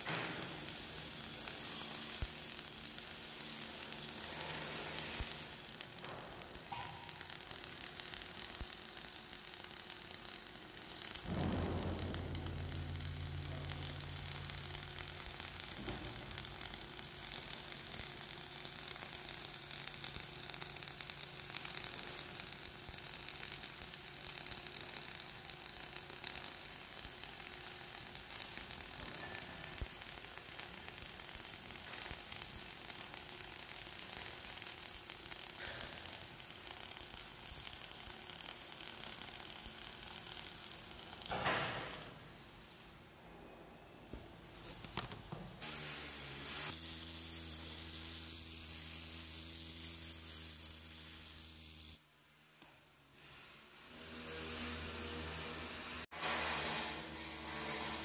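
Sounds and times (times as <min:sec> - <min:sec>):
welding arc crackling and hissing: 0:00.0 - 0:43.1, 0:44.5 - 0:58.0.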